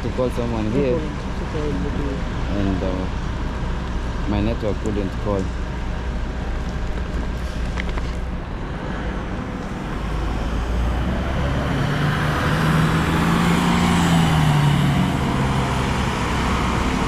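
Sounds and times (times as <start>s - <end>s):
traffic rumble: 0.0s - 17.0s
vehicle engine hum: 0.0s - 17.0s.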